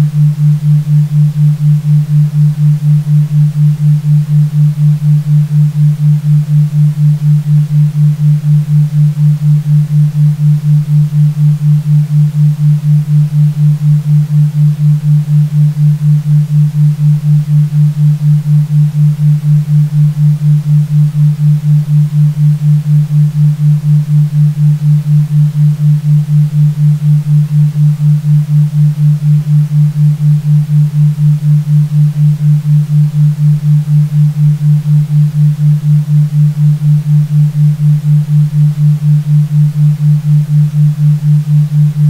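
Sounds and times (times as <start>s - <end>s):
low pulsing pure tone: 0.0s - 42.0s.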